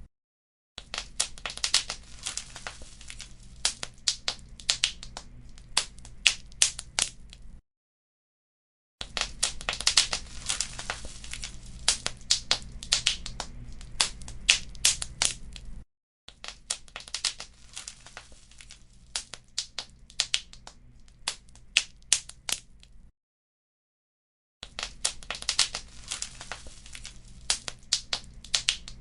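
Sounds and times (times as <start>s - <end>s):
wood fire crackling: 0.8s - 7.6s, 9.0s - 15.8s, 16.4s - 23.0s, 24.7s - 29.0s.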